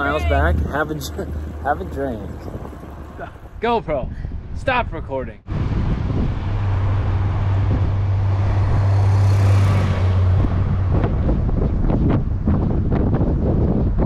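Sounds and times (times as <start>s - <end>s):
bus engine hum: 0.0s - 3.6s, 5.6s - 14.0s.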